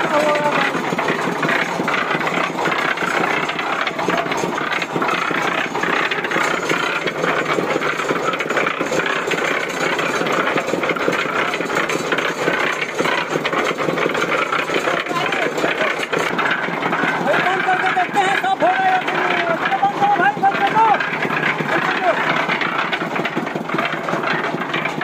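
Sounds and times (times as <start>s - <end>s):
cement mixer churning: 0.0s - 25.0s.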